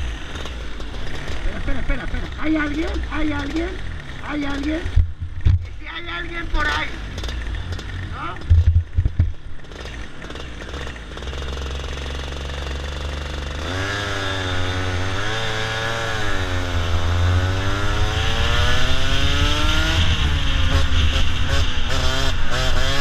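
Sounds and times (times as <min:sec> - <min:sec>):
kart engine accelerating: 0:00.0 - 0:05.0, 0:06.2 - 0:23.0.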